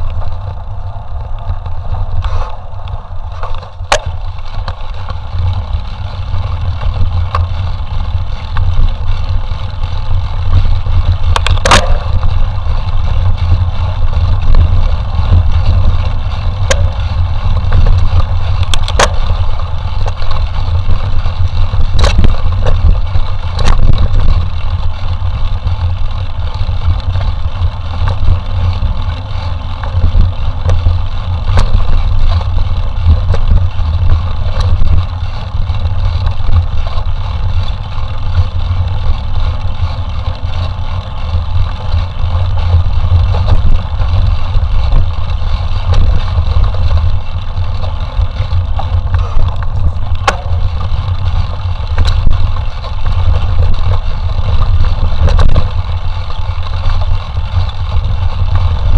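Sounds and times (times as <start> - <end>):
bike clattering over rough ground: 0.0 - 58.9
wind buffeting microphone: 0.0 - 58.9.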